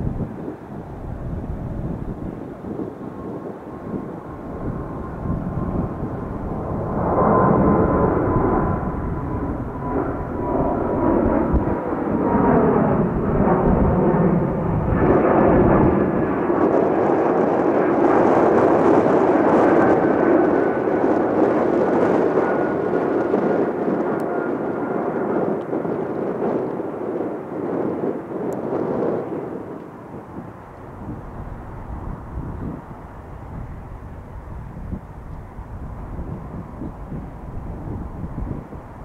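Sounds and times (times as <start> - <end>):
jet engine whine: 0.0 - 39.0
jet roaring overhead: 0.0 - 39.0.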